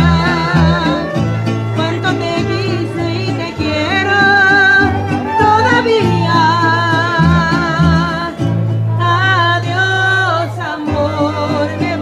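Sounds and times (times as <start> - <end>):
bass line: 0.0 - 12.0
guitar strumming: 0.0 - 12.0
melody instruments with vibrato: 0.0 - 12.0
person singing: 0.0 - 12.0.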